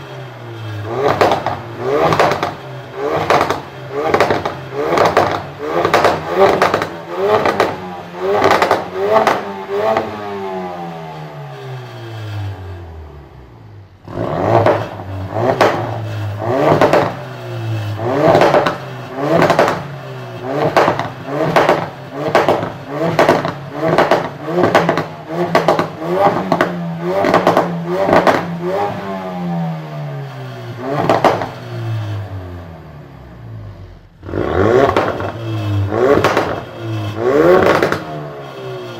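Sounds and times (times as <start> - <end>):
car engine revving in quick blips: 0.7 - 10.8, 14.0 - 32.3, 33.7 - 38.9.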